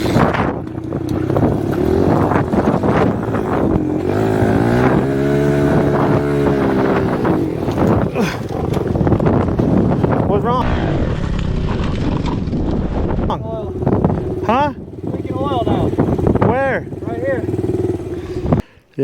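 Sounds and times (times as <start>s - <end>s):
dirt bike engine revving: 0.0s - 18.6s
wind buffeting microphone: 0.0s - 18.6s.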